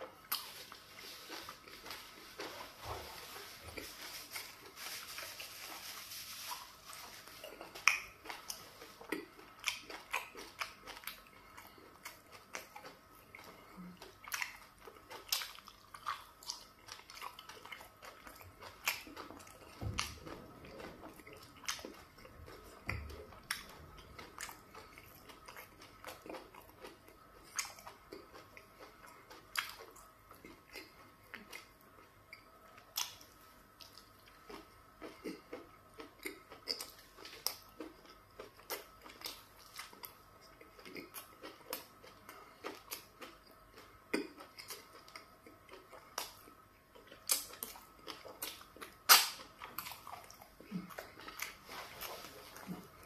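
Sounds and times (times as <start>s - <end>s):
person chewing and lip-smacking: 7.4s - 53.0s.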